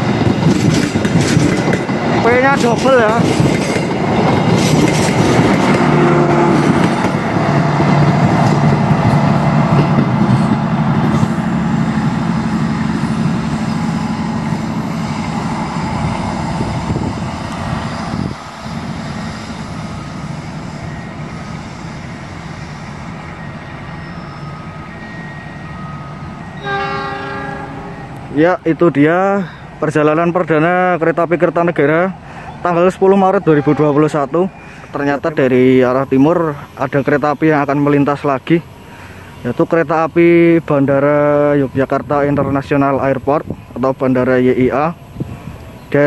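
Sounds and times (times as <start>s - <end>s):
train rumbling past: 0.0s - 46.0s.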